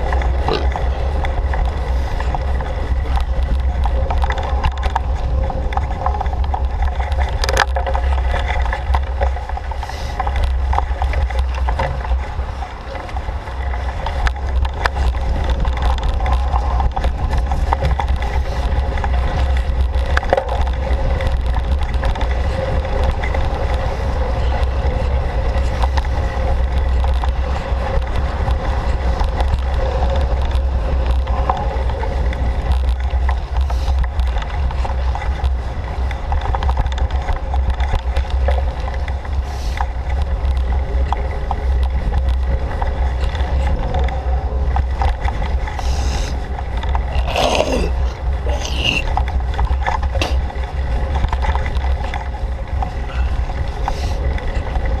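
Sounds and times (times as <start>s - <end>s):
bicycle tyres on dirt trail: 0.0s - 55.0s
bike knocks and rattles: 0.0s - 55.0s
wind rumble on microphone: 0.0s - 55.0s.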